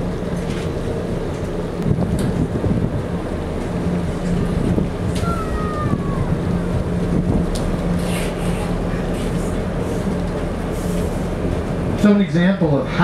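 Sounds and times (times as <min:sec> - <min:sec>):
wind buffeting microphone: 0:00.0 - 0:12.0
boat engine droning: 0:00.0 - 0:13.0.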